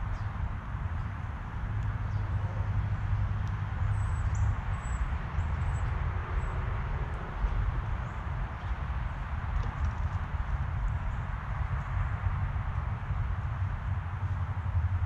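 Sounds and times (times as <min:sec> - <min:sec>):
low outdoor rumble and hiss: 0:00.0 - 0:15.0.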